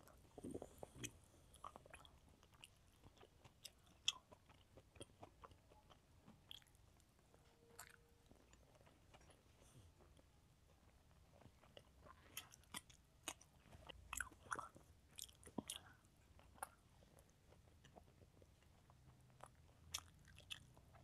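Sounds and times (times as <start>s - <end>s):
chewing: 0.0s - 21.0s.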